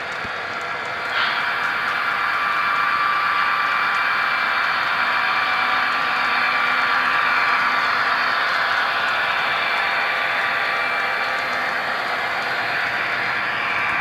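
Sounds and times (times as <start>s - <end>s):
model train whirring on track: 0.0s - 14.0s.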